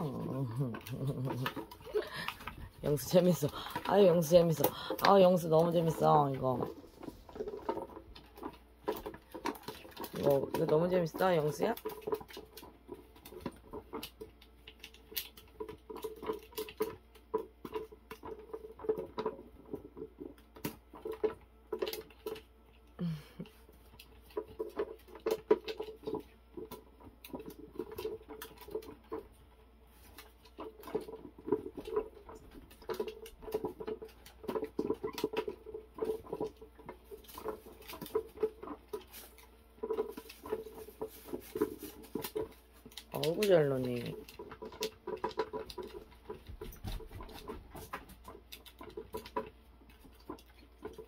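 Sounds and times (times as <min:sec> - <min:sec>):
claws scratching plastic toy: 0:00.0 - 0:51.0.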